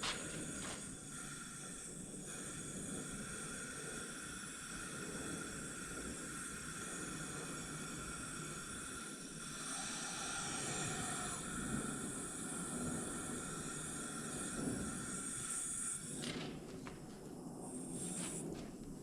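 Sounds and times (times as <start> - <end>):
compressed air hissing: 0.0 - 19.0.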